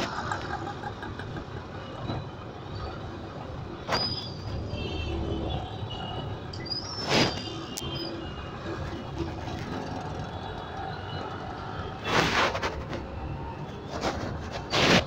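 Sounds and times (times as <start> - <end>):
rickshaw engine rumbling: 0.0 - 14.7
traffic noise: 0.0 - 15.0.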